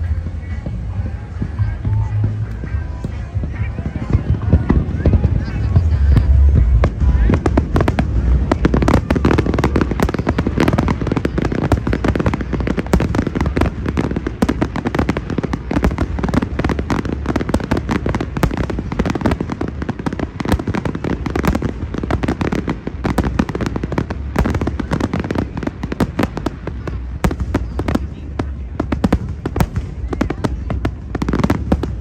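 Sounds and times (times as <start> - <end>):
deep rumble: 0.0 - 32.0
fireworks bangs and crackles: 0.0 - 32.0.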